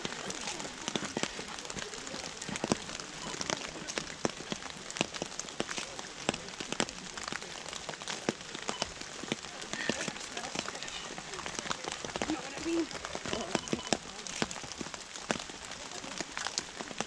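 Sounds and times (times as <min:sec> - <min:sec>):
rain on wet pavement: 0:00.0 - 0:17.0.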